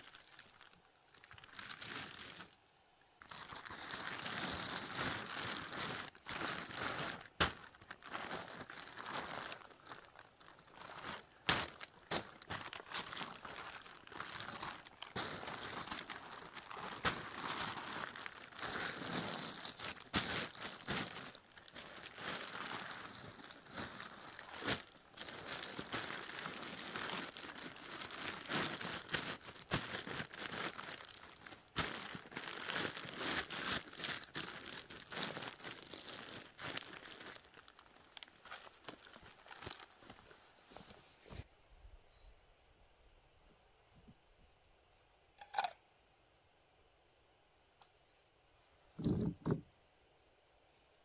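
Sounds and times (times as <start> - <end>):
plastic tarp rustling: 0.0 - 2.6, 3.2 - 41.5.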